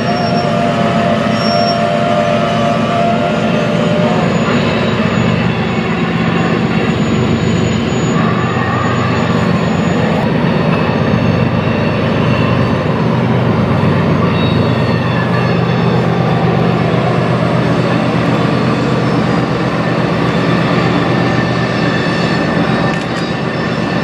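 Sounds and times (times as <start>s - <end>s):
diesel locomotive hum: 0.0s - 24.0s
train wheels rumbling on rails: 0.0s - 24.0s.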